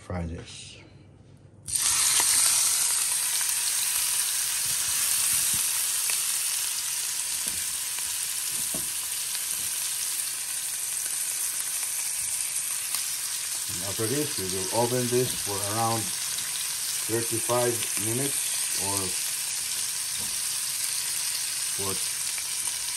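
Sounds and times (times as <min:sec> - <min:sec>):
meat sizzling in a frying pan: 0:01.7 - 0:22.9.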